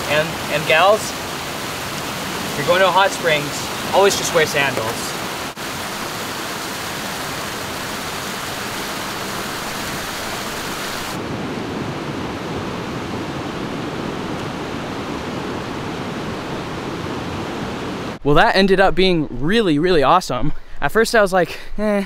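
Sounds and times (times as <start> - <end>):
flowing water rushing: 0.0 - 18.2.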